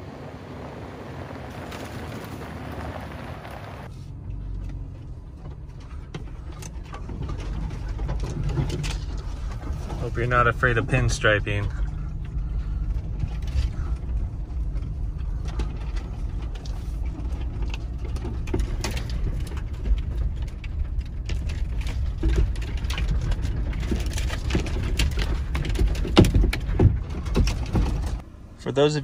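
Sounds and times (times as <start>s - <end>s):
vehicle engine and tyres rumbling: 0.0s - 29.0s
branches scraping vehicle body: 1.0s - 28.2s.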